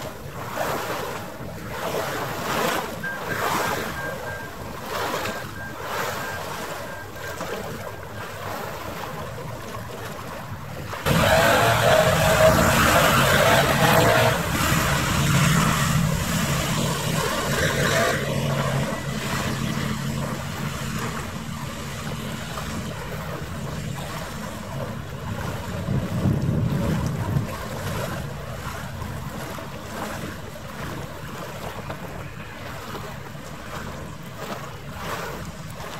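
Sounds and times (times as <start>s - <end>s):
ferry engine hum: 0.0s - 35.9s
rushing wash of water: 0.0s - 35.9s
wind on microphone: 0.0s - 35.9s.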